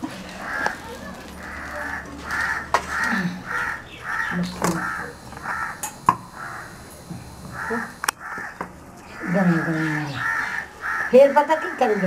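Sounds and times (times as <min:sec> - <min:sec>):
crow cawing: 0:00.4 - 0:06.8, 0:07.5 - 0:12.0.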